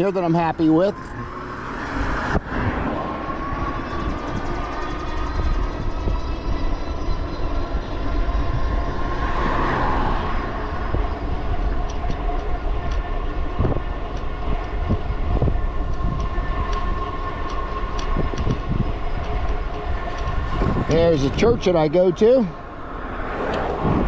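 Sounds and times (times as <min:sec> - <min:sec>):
tyre noise on paved road: 0:00.0 - 0:24.0
wind rushing over microphone: 0:00.0 - 0:24.0
electric motor whine: 0:00.6 - 0:21.8.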